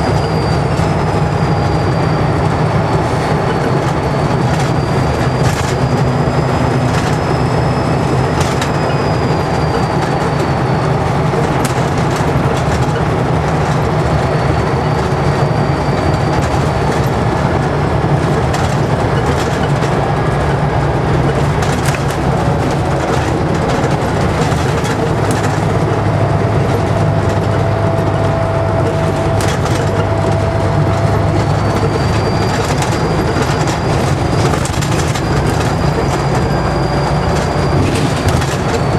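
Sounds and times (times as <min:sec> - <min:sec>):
bus body rattling: 0:00.0 - 0:38.9
diesel bus engine drone: 0:00.0 - 0:38.9
turbocharger whistling: 0:00.0 - 0:38.9.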